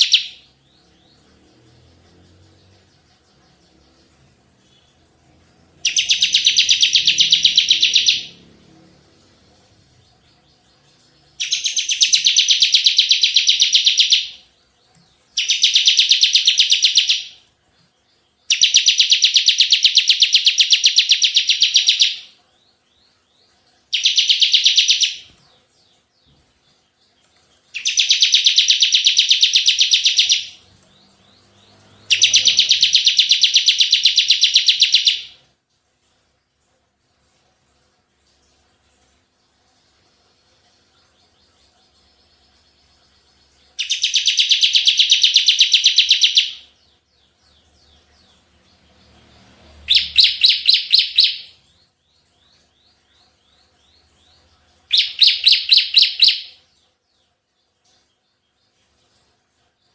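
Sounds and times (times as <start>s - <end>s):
bird trilling song: 0.0s - 35.5s, 39.4s - 59.9s.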